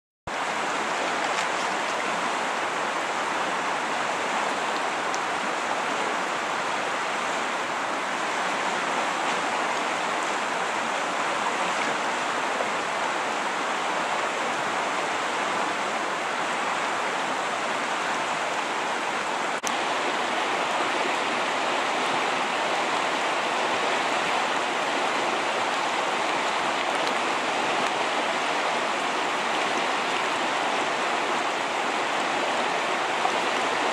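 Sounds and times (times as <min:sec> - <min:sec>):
river rushing over rocks: 0:00.3 - 0:33.9.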